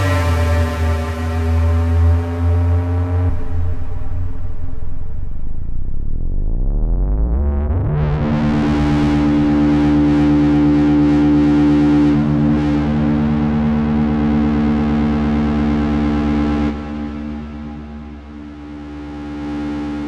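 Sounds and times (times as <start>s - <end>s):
distorted synthesizer note: 0.0s - 20.0s.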